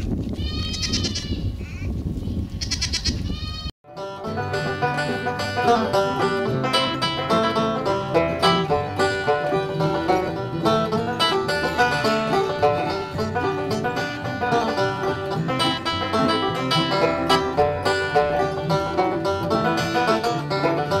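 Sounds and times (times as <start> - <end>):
fast banjo picking: 3.8 - 21.0.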